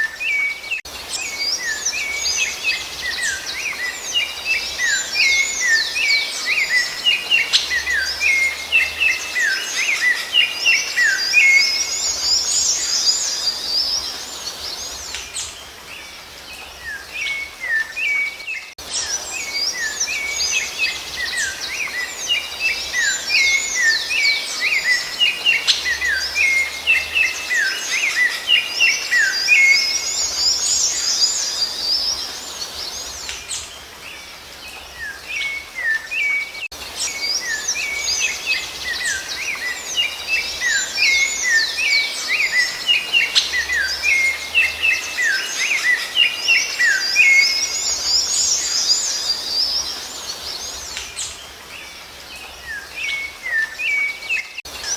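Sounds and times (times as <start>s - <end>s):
thrush singing whistled notes: 0.0s - 54.9s.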